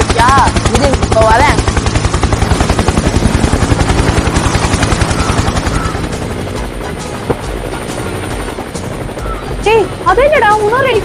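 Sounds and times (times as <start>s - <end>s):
helicopter rotor chopping: 0.0s - 11.0s.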